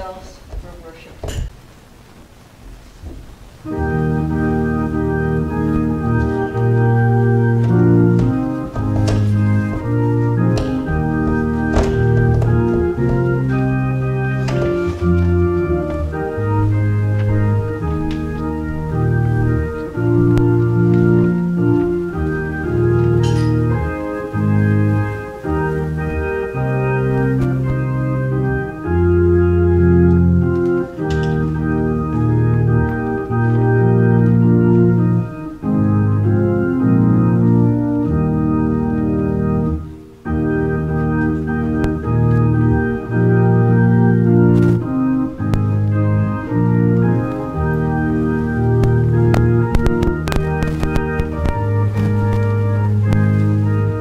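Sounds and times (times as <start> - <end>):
organ playing chords: 0.0 - 54.0.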